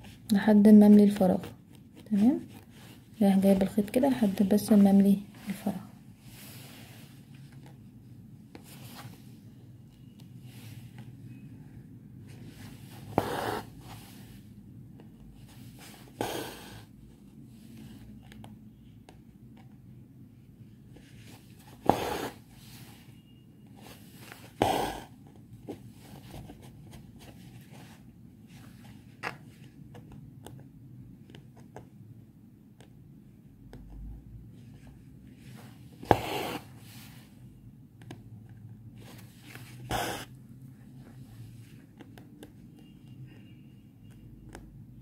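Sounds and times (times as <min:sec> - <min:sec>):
low steady background hum: 0:00.0 - 0:45.0.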